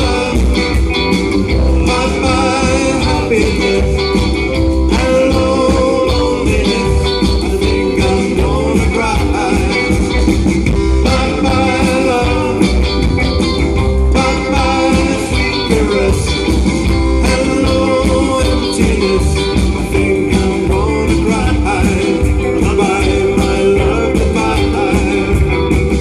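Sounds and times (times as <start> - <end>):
drum kit: 0.0 - 26.0
electric guitars: 0.0 - 26.0
keyboard: 0.0 - 26.0.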